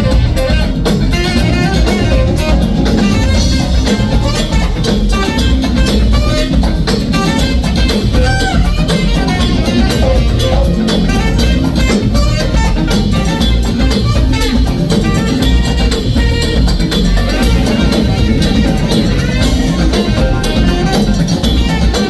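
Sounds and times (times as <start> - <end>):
band playing loud music: 0.0 - 22.0
steady drum beat: 0.0 - 22.0.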